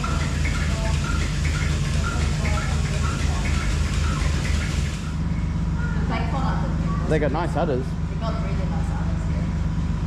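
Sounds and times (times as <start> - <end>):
machine running: 0.0 - 10.0.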